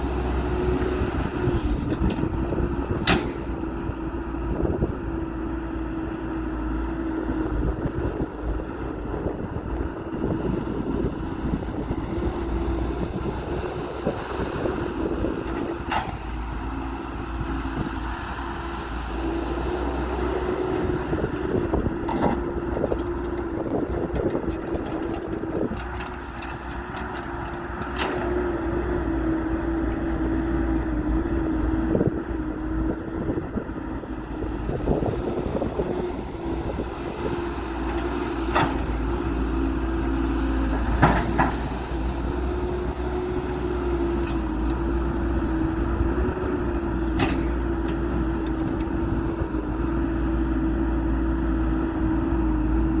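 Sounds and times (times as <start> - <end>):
heavy diesel machinery running: 0.0 - 53.0.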